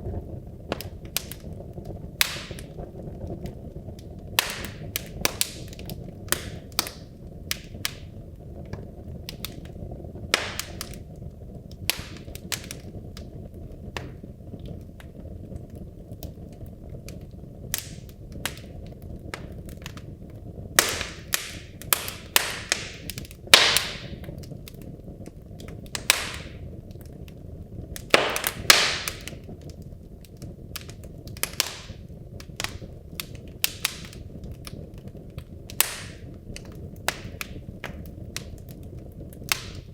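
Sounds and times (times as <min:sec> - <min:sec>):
logs cracking and popping: 0:00.0 - 0:39.9
low rush of flame: 0:00.0 - 0:39.9.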